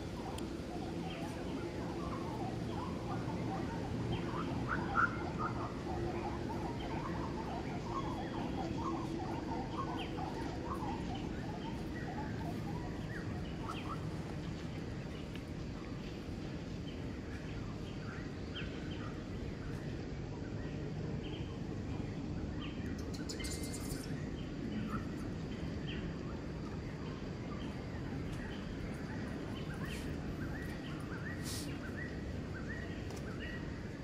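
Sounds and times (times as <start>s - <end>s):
steady low hum: 0.0s - 34.0s
small birds chirping: 0.1s - 19.8s, 22.6s - 34.0s.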